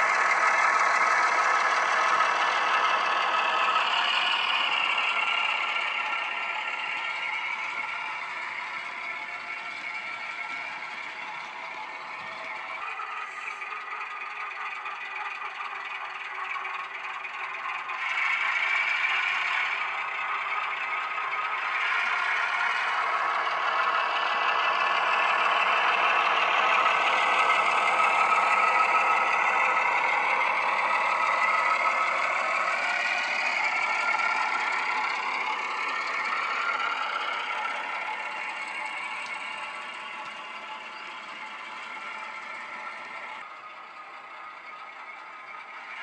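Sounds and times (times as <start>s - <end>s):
wheels clattering over track: 0.0s - 43.5s
diesel engine working: 0.0s - 46.0s.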